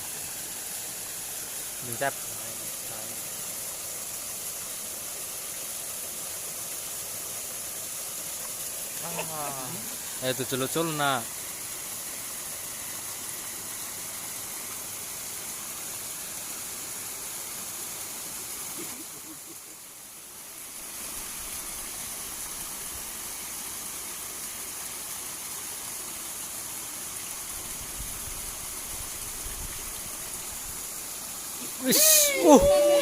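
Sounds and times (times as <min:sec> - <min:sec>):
water rushing in a ditch: 0:00.0 - 0:33.0.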